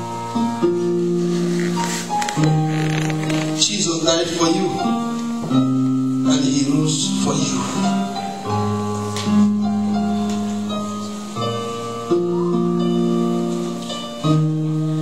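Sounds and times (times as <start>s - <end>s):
slow instrumental church music: 0.0s - 15.0s.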